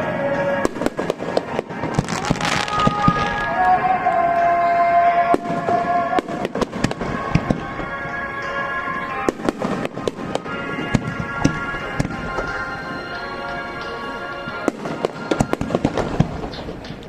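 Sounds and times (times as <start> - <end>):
fireworks bangs and crackles: 0.0 - 4.3, 5.0 - 17.0
music over loudspeakers: 0.0 - 17.0.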